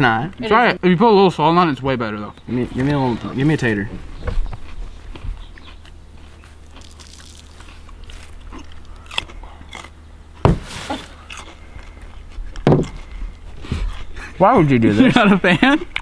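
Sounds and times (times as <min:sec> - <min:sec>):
raw potato crunching: 0:02.4 - 0:16.0.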